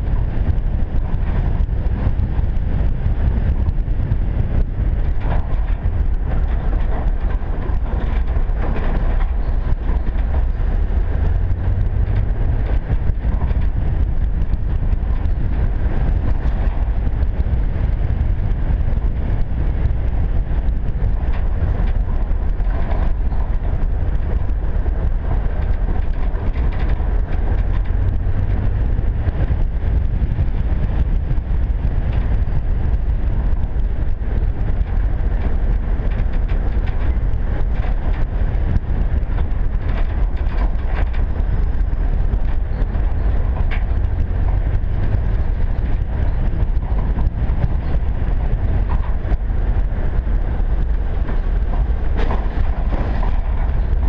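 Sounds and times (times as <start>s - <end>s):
vehicle engine and tyres rumbling: 0.0s - 54.0s
wind on microphone: 0.0s - 54.0s.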